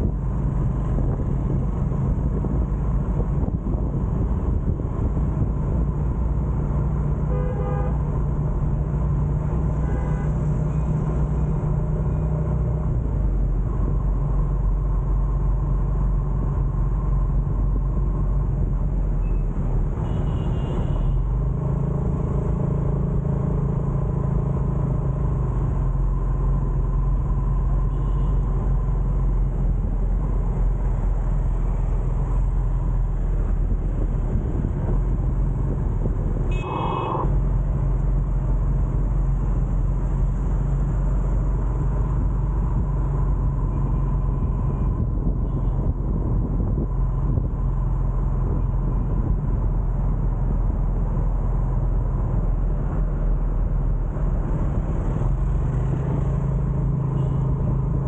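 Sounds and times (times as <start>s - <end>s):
passing motorbikes and cars: 0.0s - 58.0s
vehicle engine and road noise: 0.0s - 58.0s.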